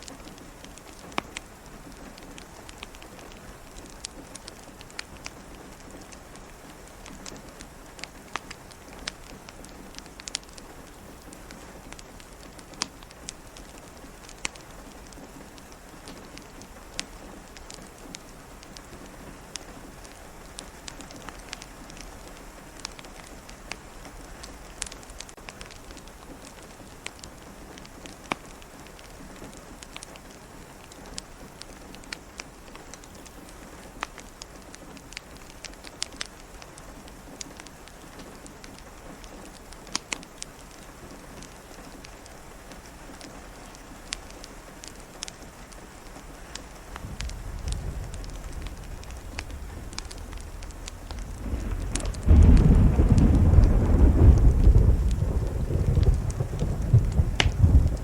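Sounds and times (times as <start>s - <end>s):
soft rain hiss: 0.0s - 58.0s
wood fire crackling and popping: 0.0s - 58.0s.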